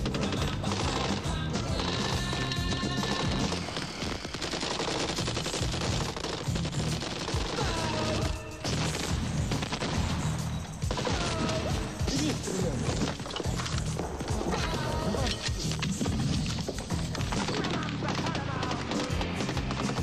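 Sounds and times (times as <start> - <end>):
heavy automatic gunfire: 0.0 - 15.2, 15.8 - 20.0.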